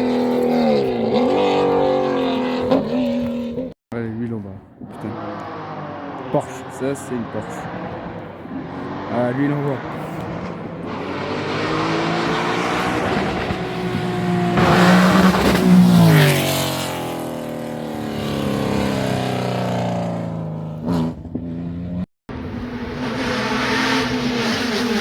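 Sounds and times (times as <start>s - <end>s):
rally car engine passing: 0.0s - 25.0s.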